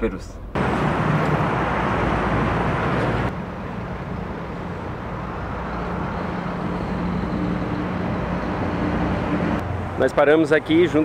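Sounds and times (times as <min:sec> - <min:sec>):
vehicle engine humming: 0:00.0 - 0:11.0
road noise rushing: 0:00.5 - 0:11.0.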